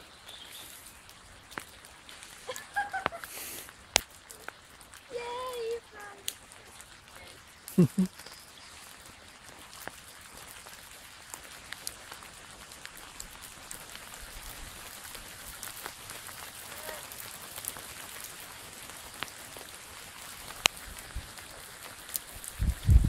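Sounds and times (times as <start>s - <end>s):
rain pattering into puddles: 0.0s - 23.0s
water drips: 0.0s - 23.0s.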